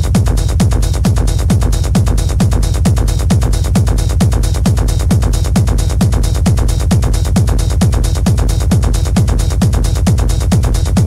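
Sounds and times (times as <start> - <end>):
electronic dance music: 0.0 - 11.0
fast hi-hats: 0.0 - 11.0
kick drum: 0.0 - 11.0.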